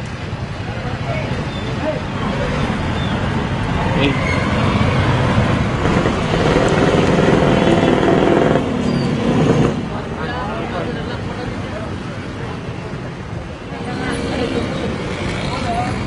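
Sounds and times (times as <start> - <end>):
heavy engine drone: 0.0 - 16.0
vehicles passing on road: 0.0 - 16.0.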